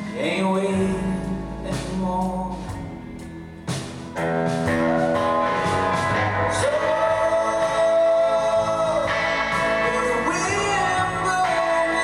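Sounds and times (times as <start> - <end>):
live band playing slow rock: 0.0 - 12.0.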